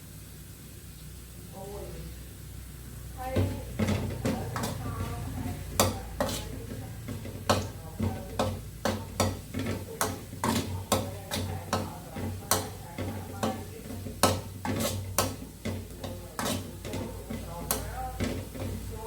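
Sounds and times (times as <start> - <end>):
steady low hum: 0.0 - 19.0
utensil knocking in cooking pot: 3.3 - 19.0.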